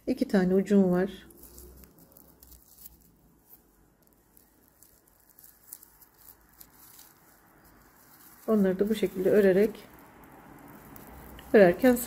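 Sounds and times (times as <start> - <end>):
yarn crinkling under crochet hook: 0.0 - 12.0.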